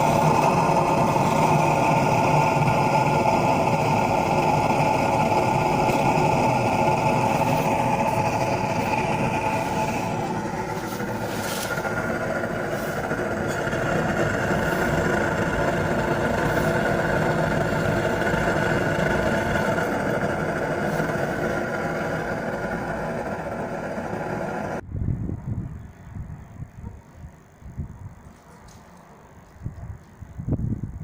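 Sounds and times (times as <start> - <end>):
furnace burning with rushing noise: 0.0 - 31.0.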